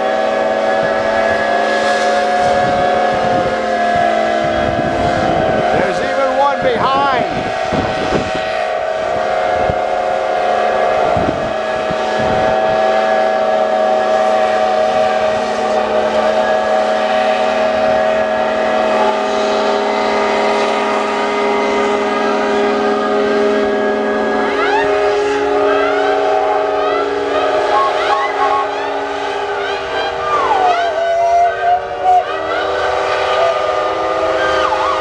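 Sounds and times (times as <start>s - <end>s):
steam engine whistles blowing: 0.0s - 35.0s.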